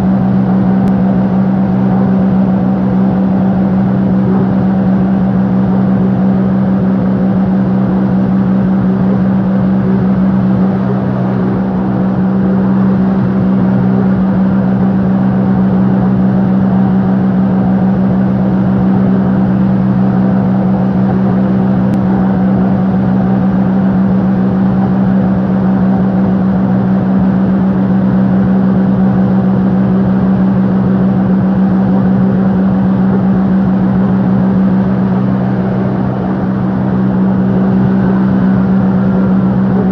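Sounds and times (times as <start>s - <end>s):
motorboat engine droning: 0.0s - 39.9s.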